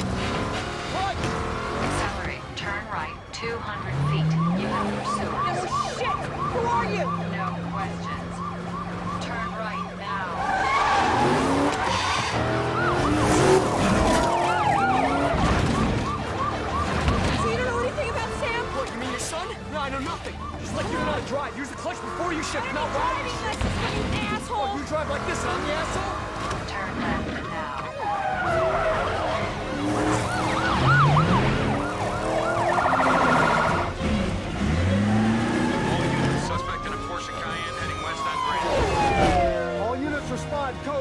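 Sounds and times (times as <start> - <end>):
speeding car engines: 0.0 - 41.0
police siren yelping: 2.1 - 40.6.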